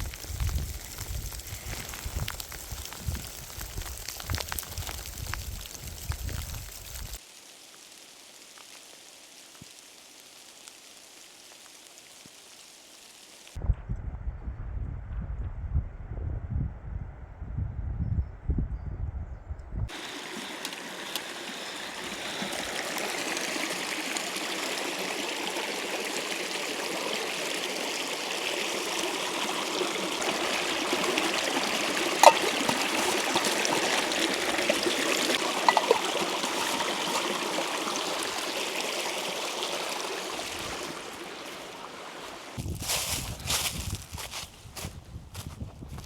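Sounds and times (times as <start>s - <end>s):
stream trickling over stones: 0.0s - 13.6s, 19.9s - 44.8s.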